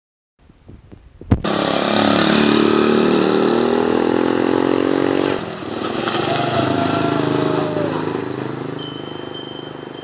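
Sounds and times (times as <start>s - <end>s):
motorcycle engine running: 1.4s - 10.0s.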